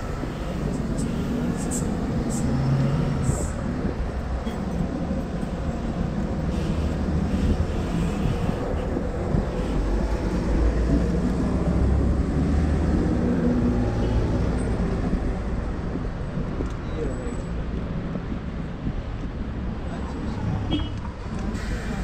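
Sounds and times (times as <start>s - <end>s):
street traffic rumbling: 0.0s - 22.0s.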